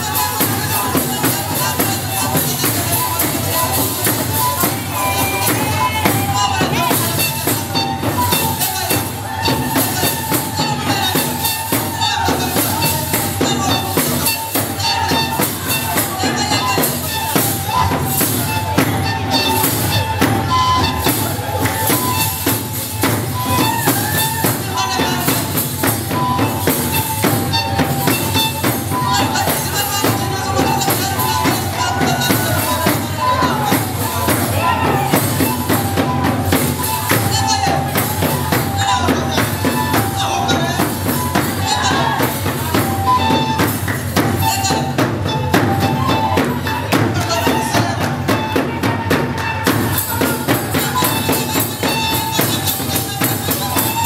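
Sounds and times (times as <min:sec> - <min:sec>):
fast percussion beat: 0:00.0 - 0:54.0.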